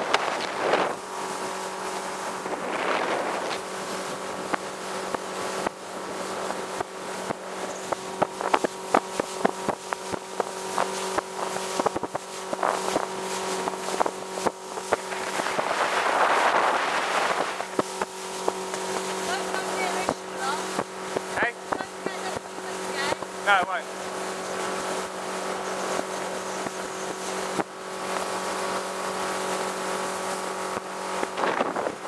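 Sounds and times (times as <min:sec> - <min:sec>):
hull slapping on water: 0:00.0 - 0:32.0
rushing water and wind: 0:00.0 - 0:32.0
speedboat engine drone: 0:00.0 - 0:32.0.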